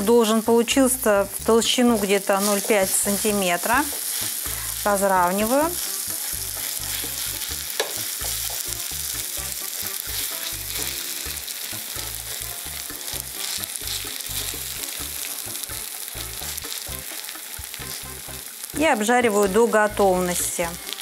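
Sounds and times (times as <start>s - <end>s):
pancake sizzling in frying pan: 1.2s - 21.0s.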